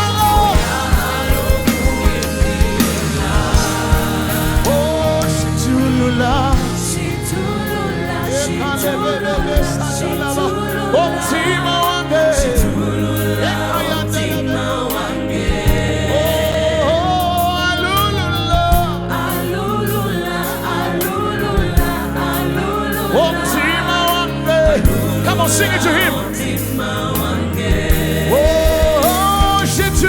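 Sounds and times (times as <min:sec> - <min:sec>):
backing singers singing together: 0:00.0 - 0:30.0
band playing gospel music: 0:00.0 - 0:30.0
low bass notes: 0:00.0 - 0:30.0.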